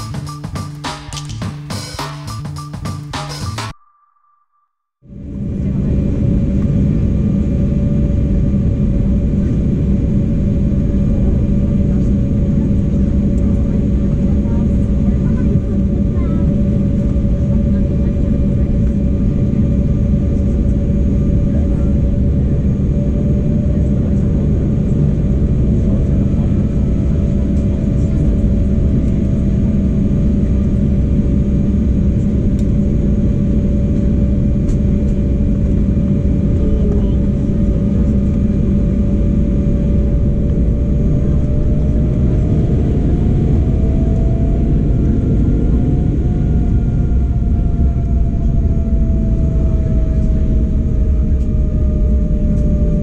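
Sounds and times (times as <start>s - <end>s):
jet engine whine: 5.0s - 53.0s
aircraft cabin rumble: 5.1s - 53.0s.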